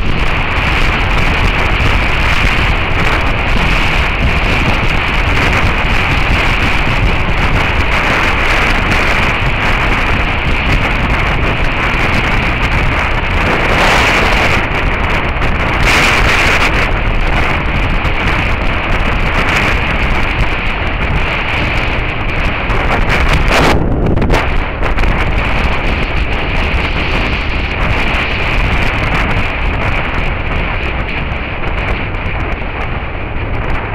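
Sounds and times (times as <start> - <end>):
motorcycle engine at road speed: 0.0 - 33.9
wind buffeting microphone: 0.0 - 33.9.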